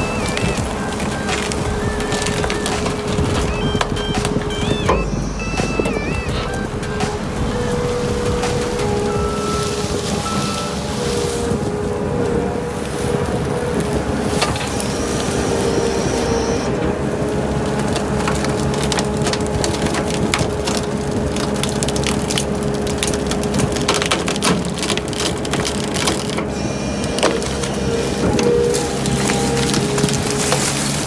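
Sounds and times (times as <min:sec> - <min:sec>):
heavy machine engine running: 0:00.0 - 0:31.0.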